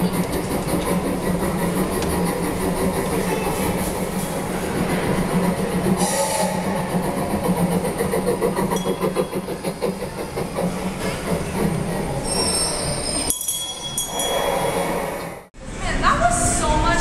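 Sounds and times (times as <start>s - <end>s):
kiddie train ride sound: 0.0s - 15.4s.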